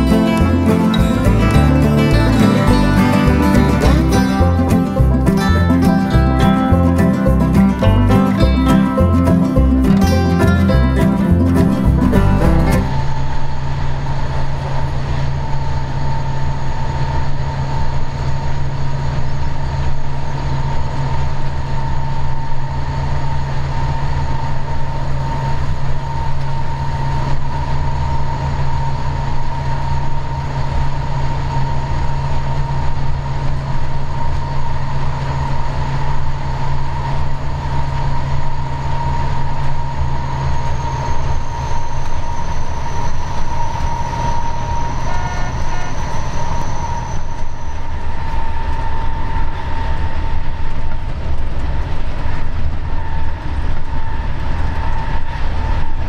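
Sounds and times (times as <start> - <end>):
high whine: 0.0 - 56.0
locomotive engine drone: 0.0 - 56.0
wheels rumbling on track: 0.0 - 56.0.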